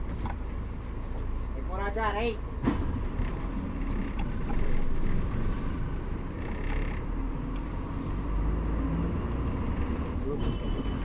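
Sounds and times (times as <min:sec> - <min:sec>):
bus engine drone: 0:00.0 - 0:11.0
tyre and road noise: 0:00.0 - 0:11.0.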